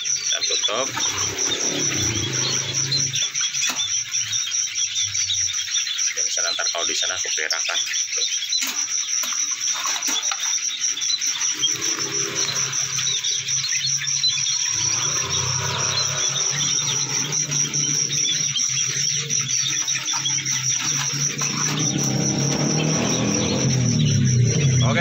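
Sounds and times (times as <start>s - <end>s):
high-pitched insect trill: 0.0s - 25.0s.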